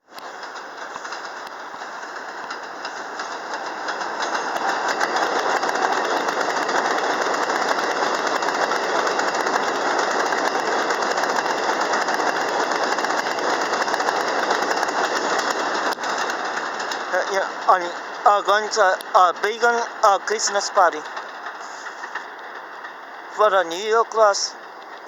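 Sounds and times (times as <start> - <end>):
train on elevated track: 0.0 - 25.0
wheel and rail clicking: 0.0 - 25.0.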